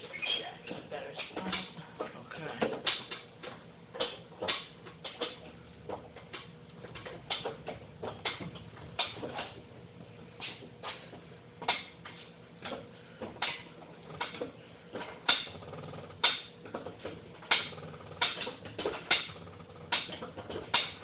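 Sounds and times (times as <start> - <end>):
car jack clicking and clanking: 2.7 - 9.7, 10.4 - 21.0.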